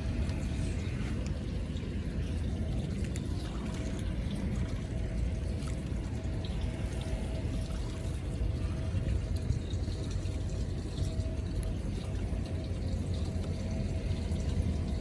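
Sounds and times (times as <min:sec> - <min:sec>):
steady low rumble: 0:00.0 - 0:15.0
water trickling and splashing: 0:00.0 - 0:15.0.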